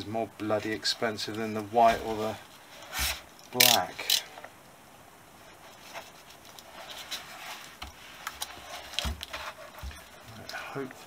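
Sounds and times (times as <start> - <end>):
foam and plastic clicks and rustles: 0.6 - 4.5, 5.8 - 10.9.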